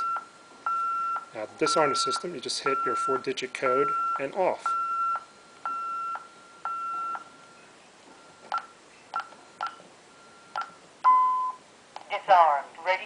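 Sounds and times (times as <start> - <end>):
alarm keypad beeps: 0.0 - 7.6, 8.2 - 11.6.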